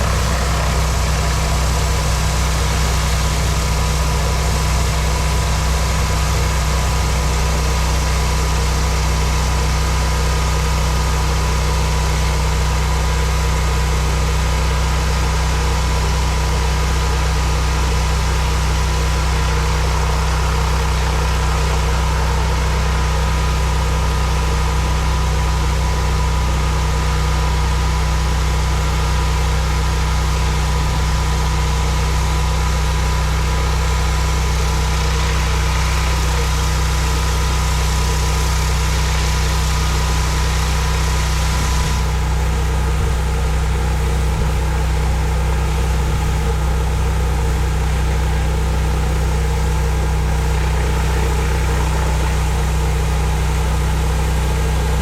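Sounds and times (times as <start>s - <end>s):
pressure washer engine running: 0.0s - 55.0s.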